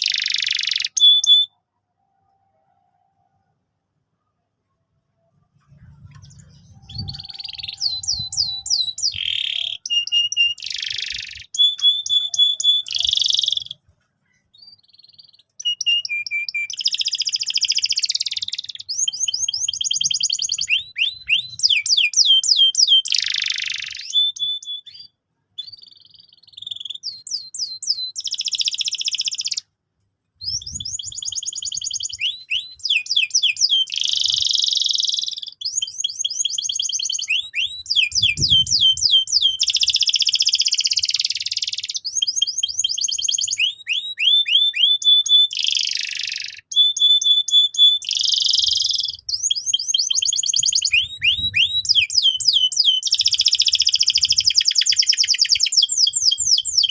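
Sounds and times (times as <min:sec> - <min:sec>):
canary singing trills: 0:00.0 - 0:01.7, 0:05.6 - 0:13.8, 0:14.4 - 0:29.7, 0:30.4 - 0:56.9.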